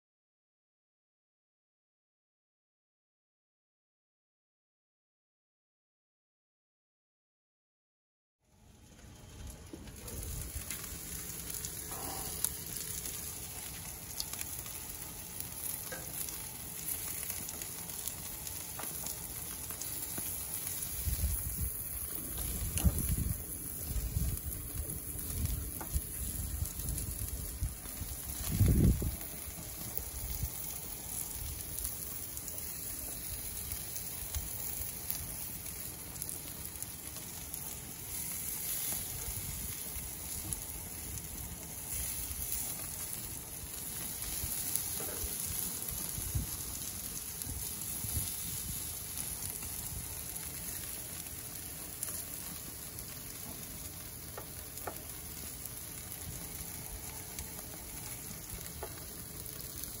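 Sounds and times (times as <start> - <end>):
chicken sizzling on a grill: 8.5 - 60.0
small crackles: 8.7 - 60.0.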